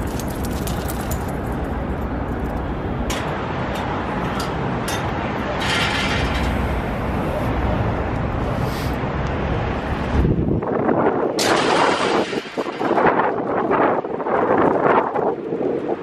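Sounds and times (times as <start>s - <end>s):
traffic noise: 0.0s - 16.0s
wind: 0.0s - 16.0s.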